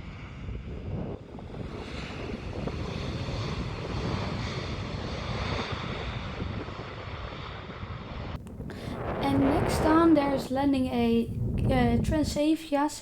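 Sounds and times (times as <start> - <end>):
jet engine rumble: 0.0 - 12.6
wind buffeting microphone: 0.0 - 12.8.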